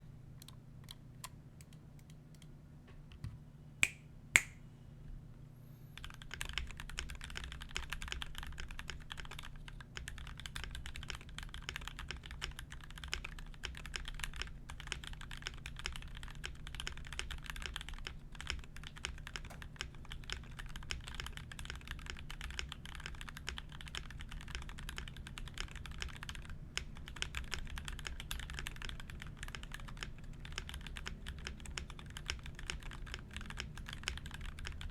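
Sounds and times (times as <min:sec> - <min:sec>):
steady low hum: 0:00.0 - 0:34.9
mechanical keyboard typing: 0:06.0 - 0:34.9.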